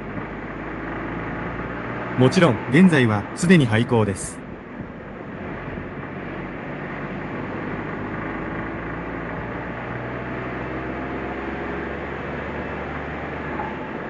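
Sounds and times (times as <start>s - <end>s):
car engine drone: 0.0s - 14.0s
road and tyre noise: 0.0s - 14.0s.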